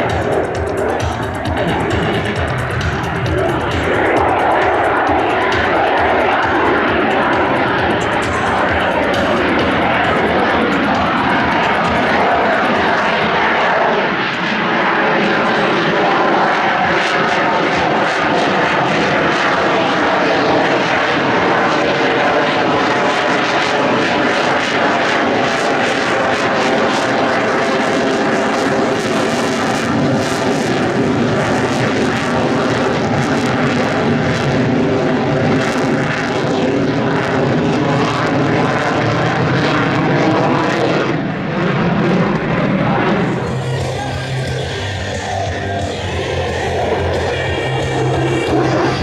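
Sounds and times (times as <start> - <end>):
airplane engine running: 0.0 - 49.0.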